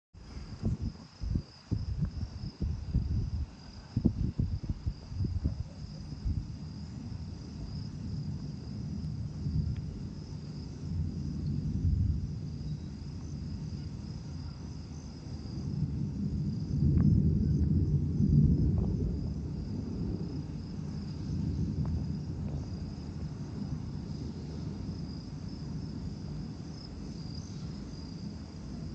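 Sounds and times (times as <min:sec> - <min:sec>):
crickets chirping: 0:00.2 - 0:28.9
low rolling thunder: 0:00.3 - 0:28.9.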